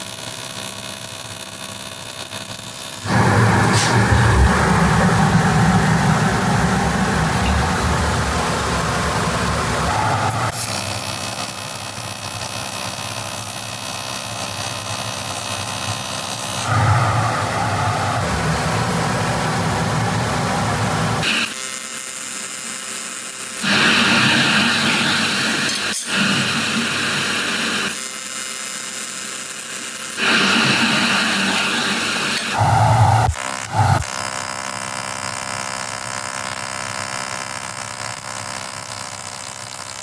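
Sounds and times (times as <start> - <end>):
workshop machine noise: 0.0 - 28.4, 29.0 - 40.0.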